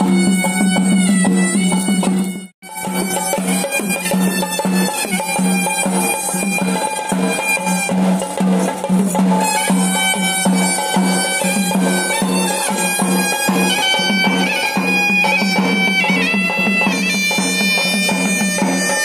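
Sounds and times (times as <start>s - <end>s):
drums beating: 0.0s - 19.0s
reedy wind instrument melody: 0.0s - 19.0s.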